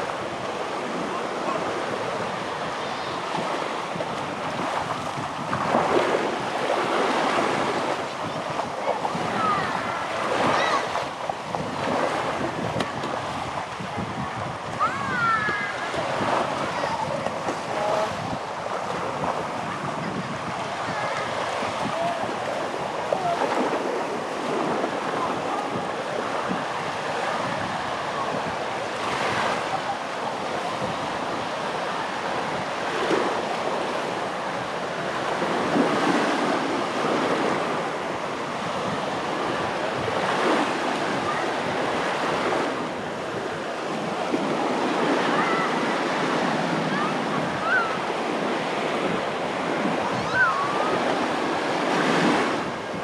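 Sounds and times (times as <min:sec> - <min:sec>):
waves breaking on beach: 0:00.0 - 0:53.0
wind on microphone: 0:00.0 - 0:53.0.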